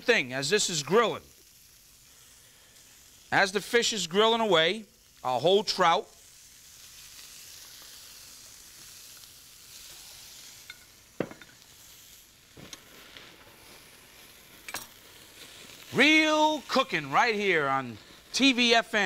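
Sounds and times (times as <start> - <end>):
sharp pops and crackles: 0.0 - 18.8
fish sizzling on a grill: 0.0 - 19.0.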